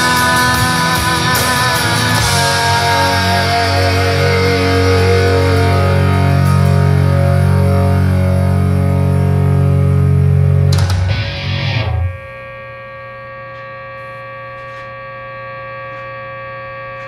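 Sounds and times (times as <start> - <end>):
distorted electric guitar chords: 0.0 - 16.9.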